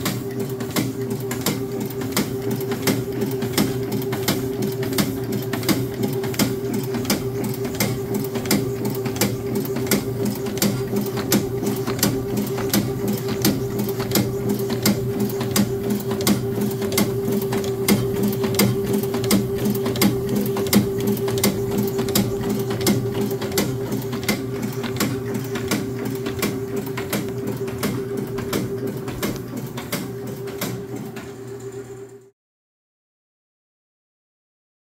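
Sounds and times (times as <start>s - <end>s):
regular machine clicking: 0.0s - 32.2s
machine motor hum: 0.0s - 32.3s.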